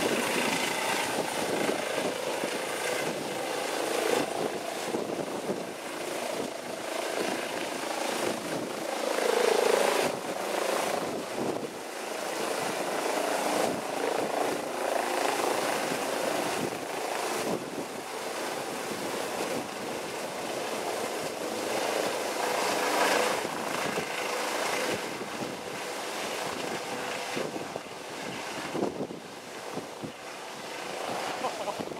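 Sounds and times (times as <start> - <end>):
helicopter flying overhead: 0.0 - 31.9.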